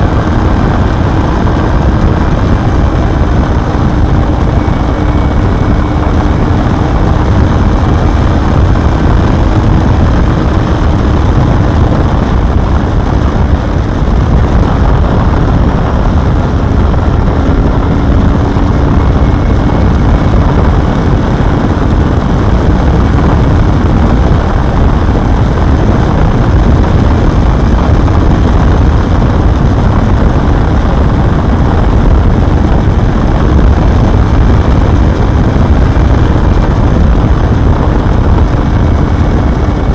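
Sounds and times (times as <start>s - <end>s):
loud dense rumble: 0.0s - 39.9s.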